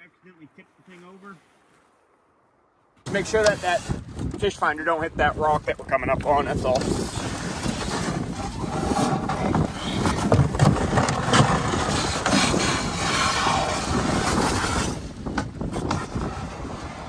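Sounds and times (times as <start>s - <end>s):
canoe hull scraping over rocks: 3.1s - 17.0s.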